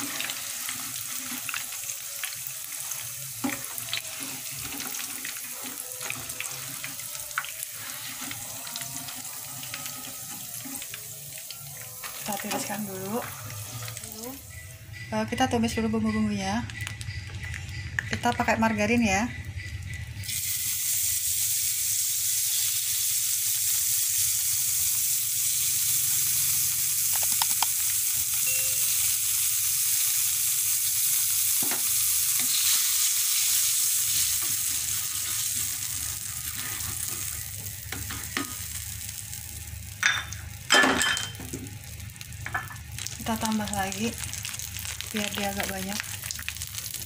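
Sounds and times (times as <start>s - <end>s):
margarine sizzling in a wok: 0.0s - 47.0s.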